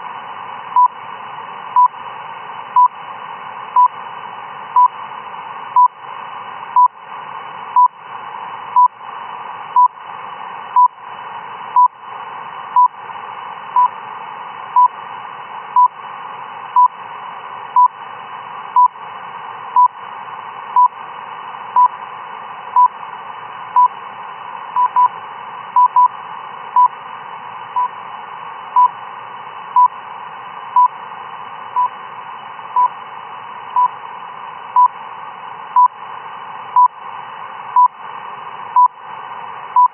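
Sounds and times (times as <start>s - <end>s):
radio band hiss: 0.0s - 39.9s.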